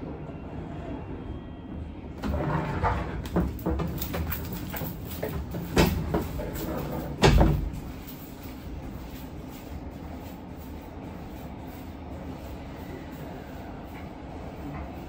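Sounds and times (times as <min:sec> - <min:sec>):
low train hum: 0:00.0 - 0:15.0
train doors closing: 0:00.0 - 0:15.0.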